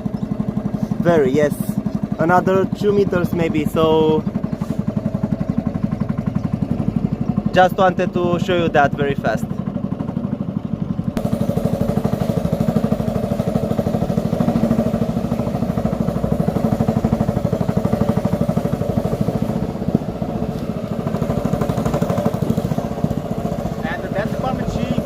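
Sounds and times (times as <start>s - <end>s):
small boat engine running: 0.0s - 25.0s.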